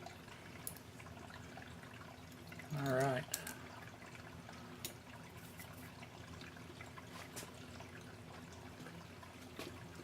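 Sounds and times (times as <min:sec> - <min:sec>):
room hum and hiss: 0:00.0 - 0:10.0.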